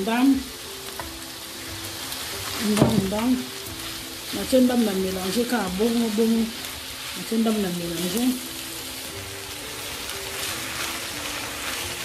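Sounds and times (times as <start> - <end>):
food sizzling in a frying pan: 0.0 - 12.0
spatula stirring food: 0.8 - 12.0.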